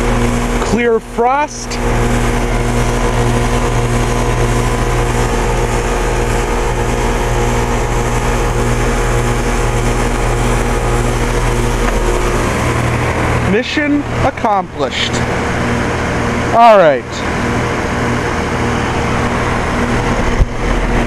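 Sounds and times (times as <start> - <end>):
compressor humming: 0.0 - 21.0
fan blowing: 0.0 - 21.0.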